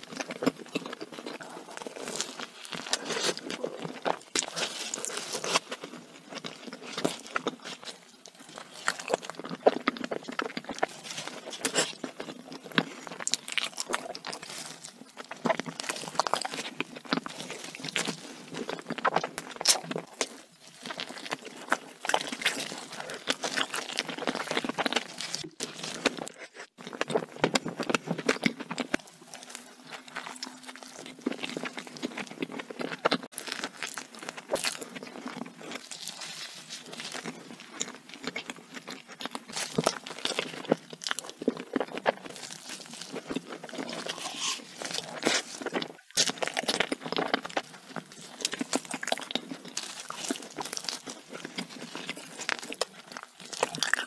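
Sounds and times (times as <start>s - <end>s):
chewing and biting: 0.0s - 54.0s.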